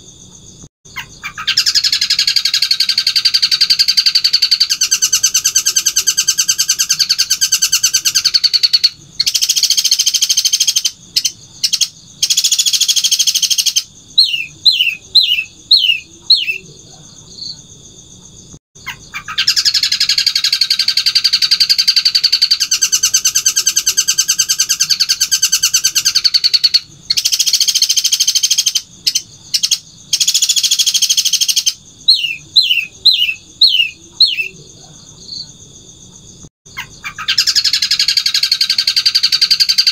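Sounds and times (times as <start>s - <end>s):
bird rattling song: 0.9s - 16.6s, 18.8s - 34.4s, 36.7s - 39.9s.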